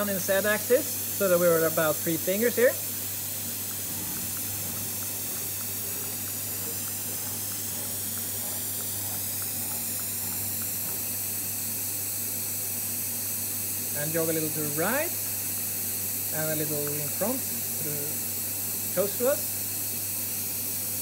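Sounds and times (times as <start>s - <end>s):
machinery hiss: 0.0s - 21.0s.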